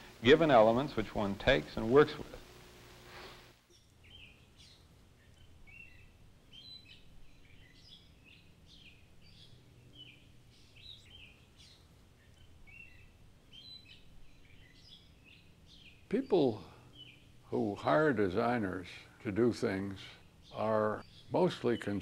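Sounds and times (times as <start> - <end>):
low steady hum: 0.0 - 22.0
small birds chirping: 3.2 - 22.0.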